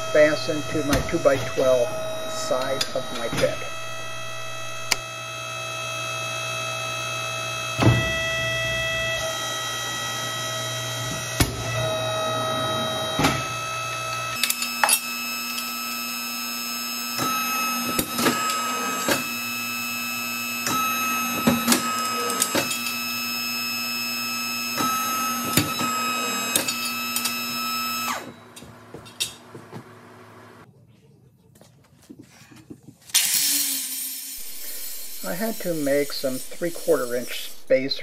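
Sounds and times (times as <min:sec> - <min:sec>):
machine motor and pump hum: 0:00.0 - 0:30.7, 0:33.2 - 0:38.0.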